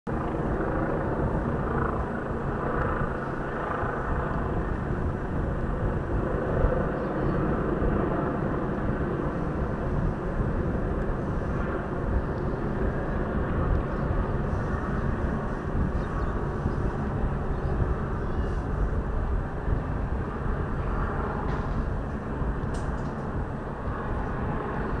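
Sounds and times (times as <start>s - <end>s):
helicopter rotor and engine noise: 0.1s - 25.0s.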